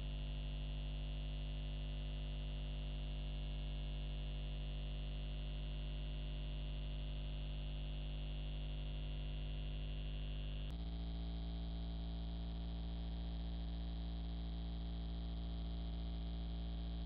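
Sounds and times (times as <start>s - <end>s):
electronic hum of held tones: 0.0s - 17.0s.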